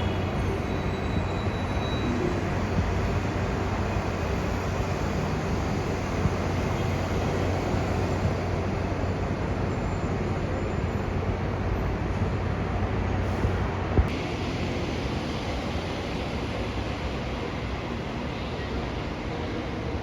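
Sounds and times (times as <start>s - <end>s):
monorail train running: 0.0s - 20.0s.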